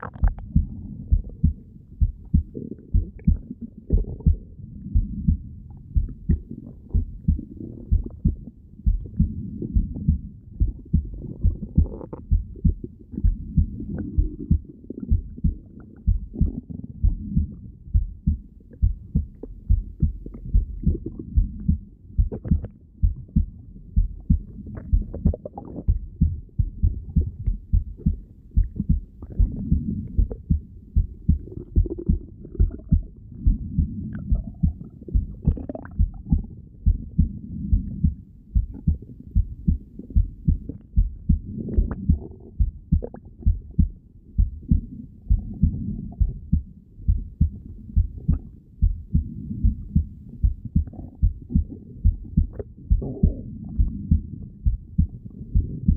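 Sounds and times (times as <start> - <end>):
heartbeat thumps: 0.0 - 55.9
stomach gurgles: 0.0 - 55.9.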